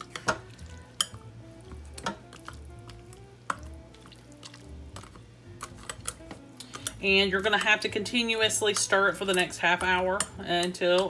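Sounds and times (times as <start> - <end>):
background music: 0.0 - 11.0
spoon stirring wet noodles: 0.0 - 11.0.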